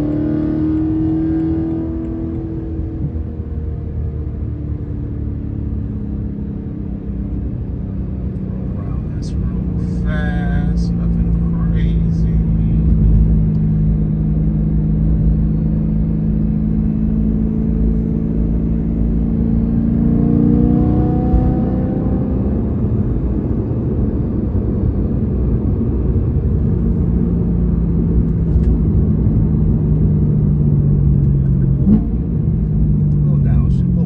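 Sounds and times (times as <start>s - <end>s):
car engine accelerating: 0.0s - 34.0s
road noise: 0.0s - 34.0s.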